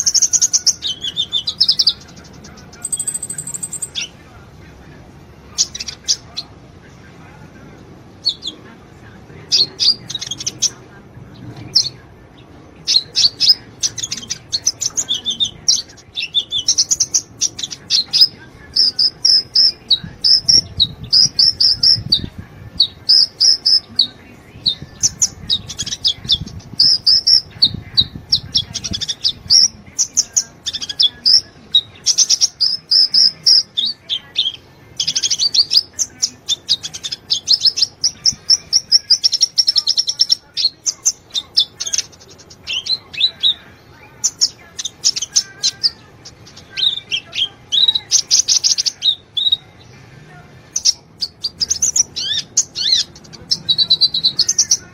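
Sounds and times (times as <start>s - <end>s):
bird chirps and trills: 0.0s - 4.2s, 8.2s - 8.6s, 9.5s - 10.8s, 11.4s - 50.0s, 50.7s - 54.9s.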